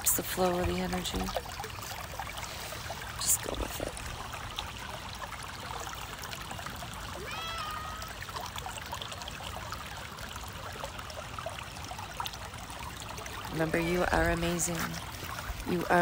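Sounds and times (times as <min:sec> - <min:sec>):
river running over gravel: 0:00.0 - 0:16.0.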